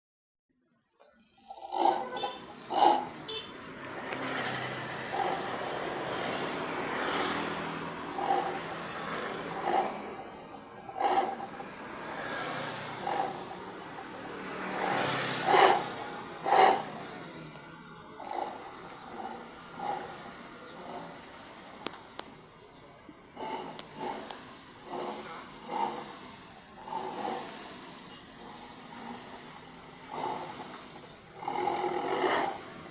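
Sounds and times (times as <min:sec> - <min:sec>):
car exhaust deep growl: 0:01.4 - 0:32.9.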